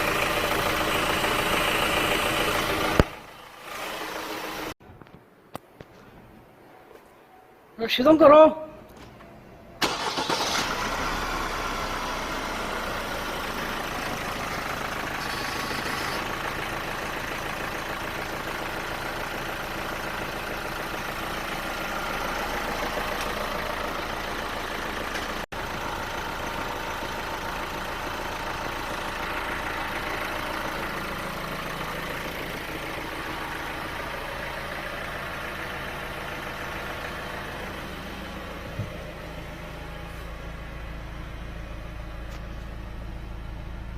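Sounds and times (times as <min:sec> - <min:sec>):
diesel engine starting and idling: 0:00.0 - 0:04.8, 0:09.0 - 0:43.9.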